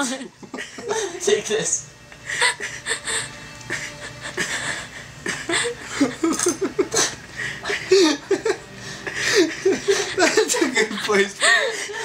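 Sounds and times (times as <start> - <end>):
man laughing: 0.0 - 1.4, 2.3 - 12.0.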